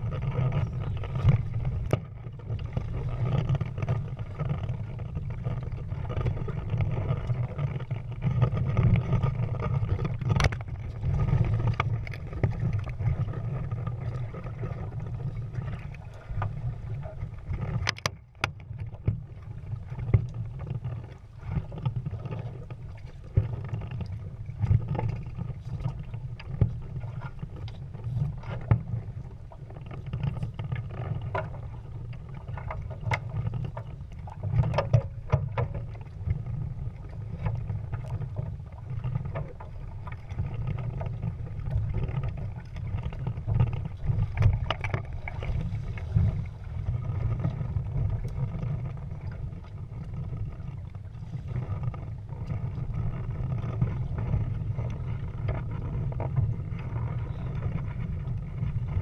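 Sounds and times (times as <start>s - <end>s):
water slapping against hull: 0.0s - 59.0s
water splashes: 0.0s - 59.0s
wind rumble on microphone: 0.0s - 59.0s.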